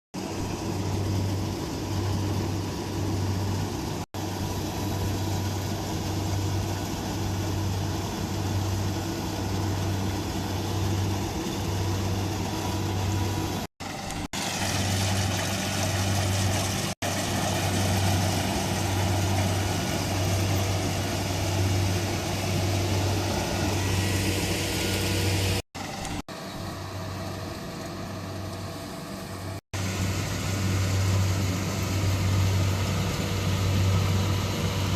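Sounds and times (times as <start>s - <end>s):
harvester engine humming: 0.2s - 34.9s.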